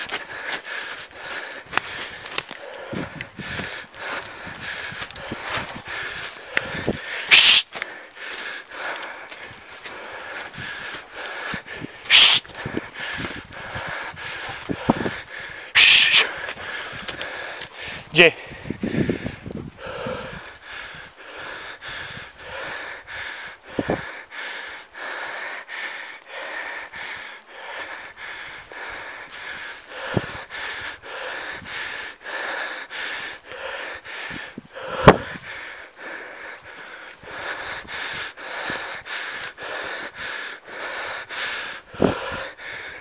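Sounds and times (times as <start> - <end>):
person breathing: 0.0 - 43.0.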